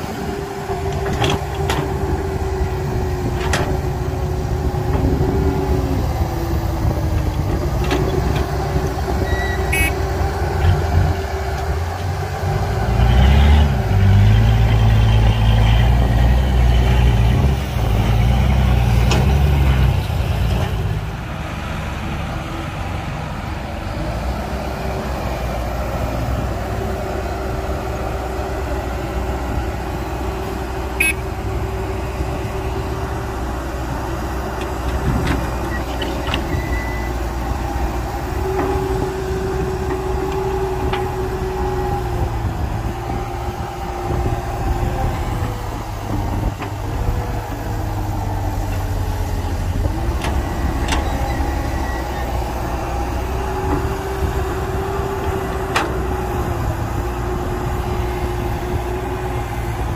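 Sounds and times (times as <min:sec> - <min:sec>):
excavator engine rumble: 0:00.0 - 0:59.9.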